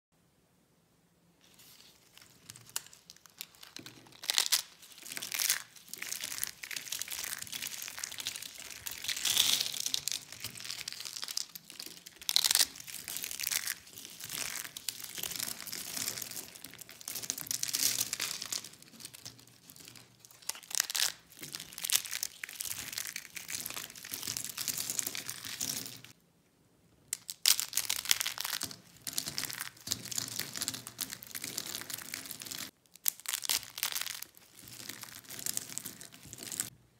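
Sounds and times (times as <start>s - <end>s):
soap slices crunching by hand: 2.2s - 26.1s, 27.2s - 36.7s.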